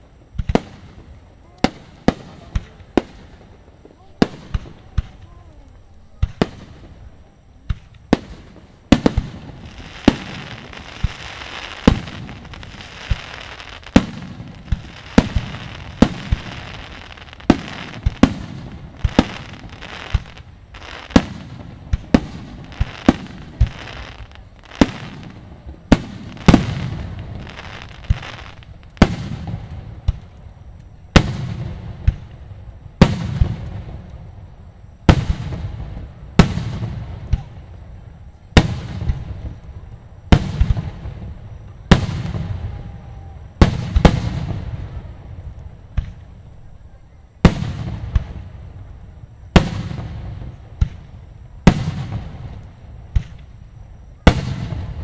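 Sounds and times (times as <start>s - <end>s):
crackling hiss of glittering fireworks: 0.0s - 55.0s
fireworks bursting with sharp bangs: 0.0s - 55.0s.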